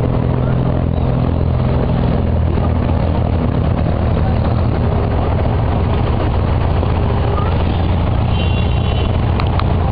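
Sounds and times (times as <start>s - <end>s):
diesel engine droning: 0.0s - 9.9s.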